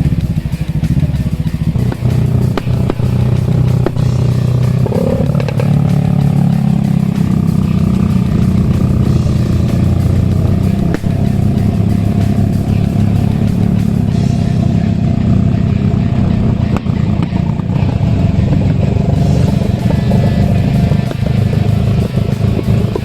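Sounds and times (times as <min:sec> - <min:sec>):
motorcycle engine running: 0:00.0 - 0:23.0
music: 0:00.0 - 0:23.0.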